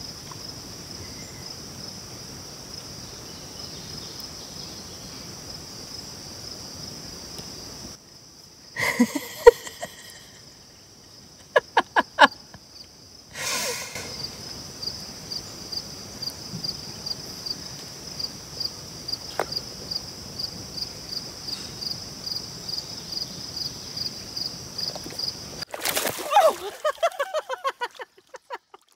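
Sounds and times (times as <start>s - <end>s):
insect chirping: 0.0s - 28.9s.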